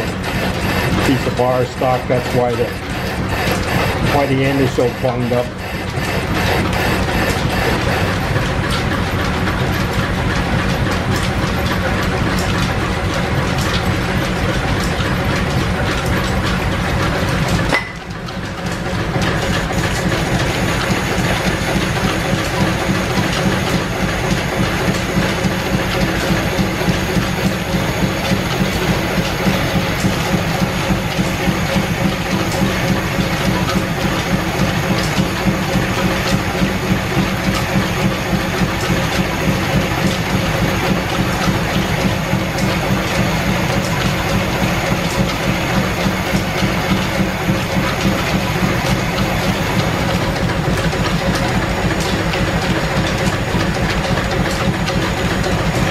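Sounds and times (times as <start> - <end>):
lathe cutting metal: 0.0 - 10.1, 14.7 - 55.9
belts clattering rhythmically: 0.0 - 55.9.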